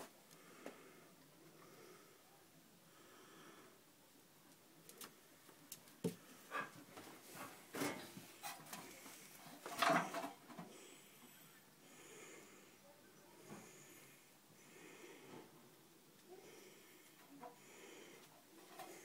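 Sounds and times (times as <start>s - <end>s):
faint room hiss: 0.0s - 19.0s.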